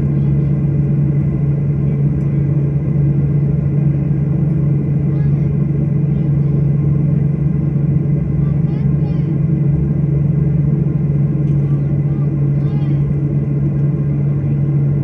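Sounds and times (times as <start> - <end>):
airliner cabin engine drone: 0.0 - 15.0.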